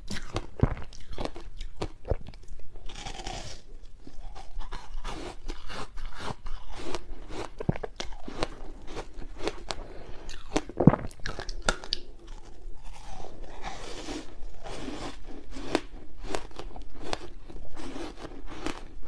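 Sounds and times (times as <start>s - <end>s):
ice crunching while chewing: 0.0s - 19.0s.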